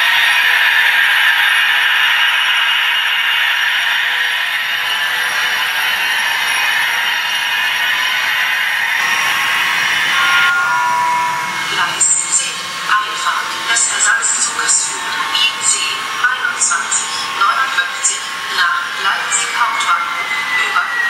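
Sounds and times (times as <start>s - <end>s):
model train whirring rattle: 0.0s - 10.9s, 11.7s - 21.0s.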